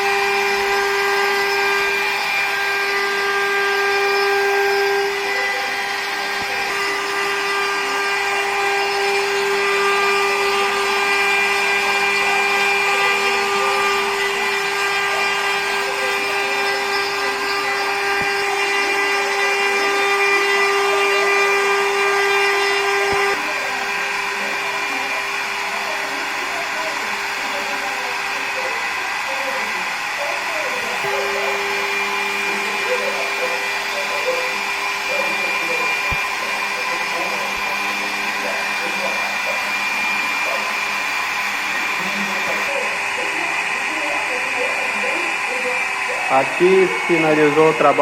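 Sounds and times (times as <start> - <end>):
router spindle high whine: 0.0 - 48.0.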